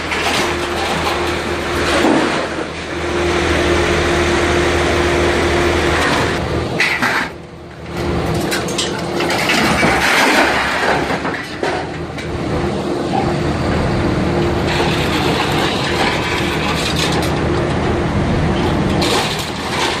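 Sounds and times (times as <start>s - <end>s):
hydraulic hum: 0.0s - 20.0s
metal scraping and crunching: 0.0s - 20.0s.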